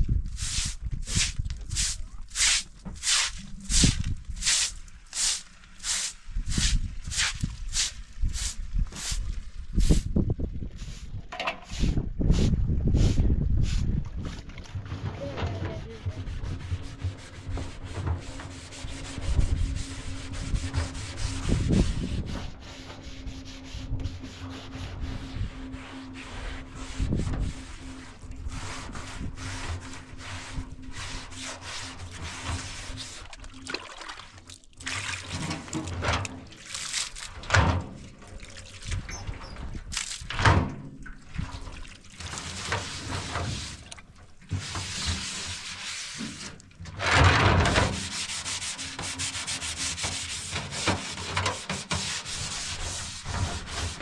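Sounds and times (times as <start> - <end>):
water pouring and splashing: 0.0 - 22.4, 27.1 - 54.0
scrubbing on wet steel: 0.2 - 40.4, 41.0 - 54.0.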